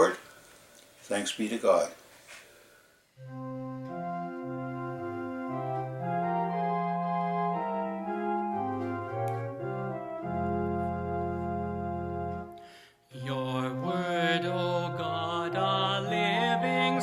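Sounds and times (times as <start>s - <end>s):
organ playing hymn chords: 3.2s - 17.0s.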